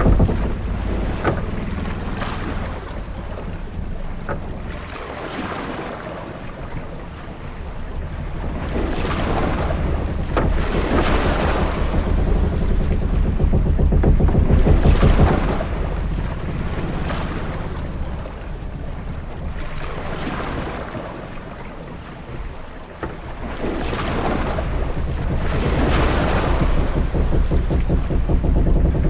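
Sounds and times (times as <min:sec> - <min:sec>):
deep wind rumble: 0:00.0 - 0:29.0
waves washing against hull: 0:00.0 - 0:29.0.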